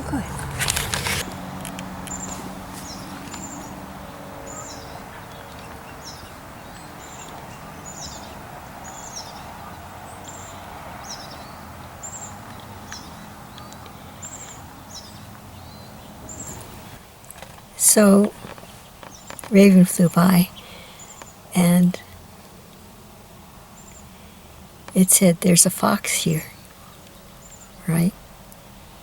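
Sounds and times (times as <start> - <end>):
open air background hum: 0.0 - 29.0
songbird chirping: 0.0 - 29.0.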